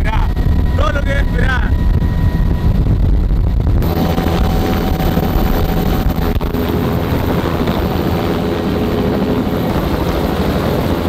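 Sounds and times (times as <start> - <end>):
helicopter turbine and rotor: 0.0 - 11.0
wind buffeting microphone: 0.0 - 11.0.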